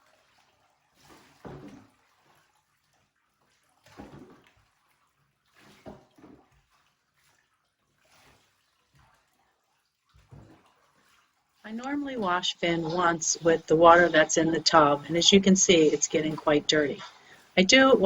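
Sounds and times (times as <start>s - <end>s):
bathwater splashing in a tub: 0.0s - 18.0s.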